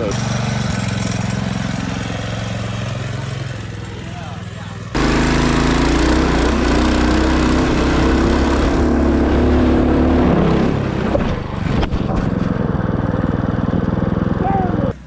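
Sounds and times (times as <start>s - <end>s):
minibike engine running hard: 0.0s - 15.0s.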